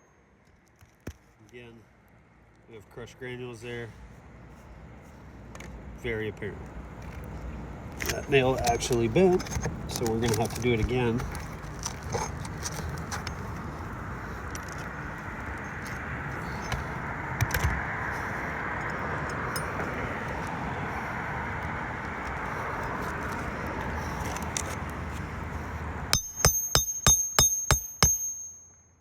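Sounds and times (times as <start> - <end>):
steady background noise: 0.1 - 28.4.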